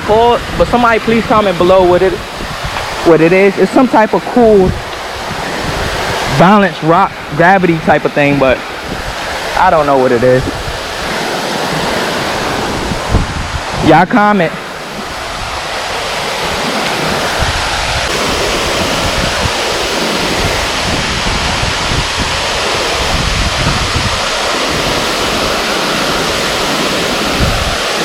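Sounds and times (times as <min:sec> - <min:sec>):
small waterfall rushing: 0:00.0 - 0:28.0
wind rumbling on microphone: 0:00.0 - 0:28.0.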